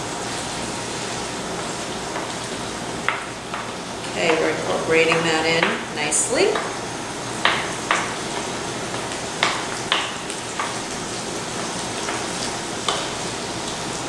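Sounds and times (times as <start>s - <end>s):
food sizzling in skillet: 0.0s - 14.0s
utensil tapping pan: 1.6s - 13.3s.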